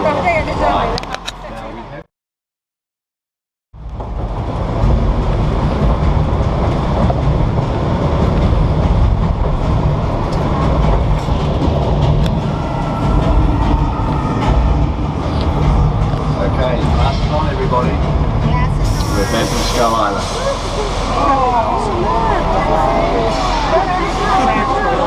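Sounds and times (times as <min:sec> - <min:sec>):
tram rumbling: 0:03.8 - 0:25.0.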